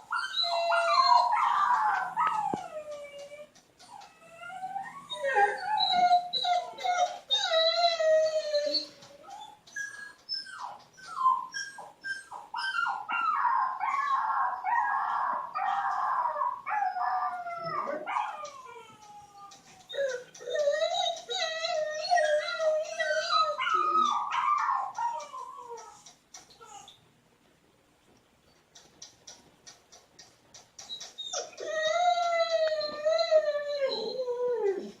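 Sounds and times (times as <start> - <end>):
dog whimpering and howling: 0.0 - 27.0, 30.9 - 35.0.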